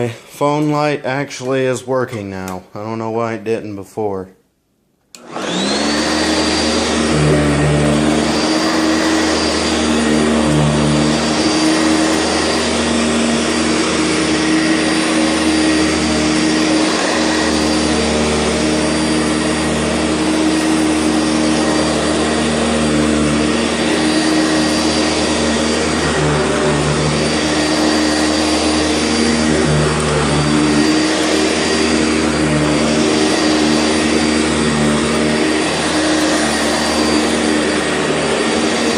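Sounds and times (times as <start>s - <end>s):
vacuum cleaner motor whine: 5.2s - 38.9s.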